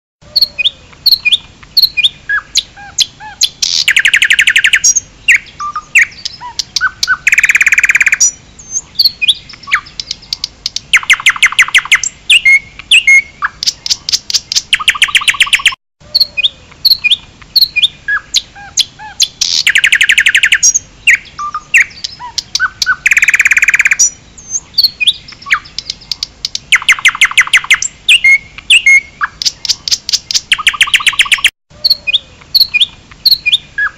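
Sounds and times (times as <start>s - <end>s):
bird song with trills: 0.2s - 33.9s.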